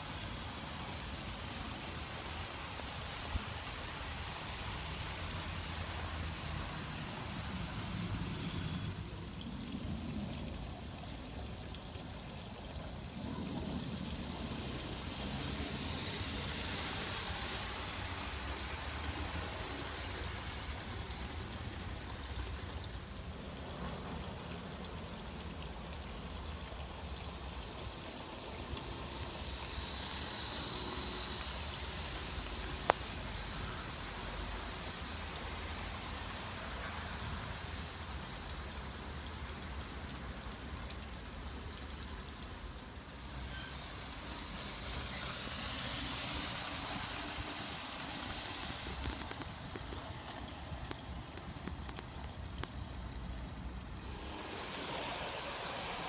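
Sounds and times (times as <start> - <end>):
model train wheels hissing on rail: 0.0 - 56.0.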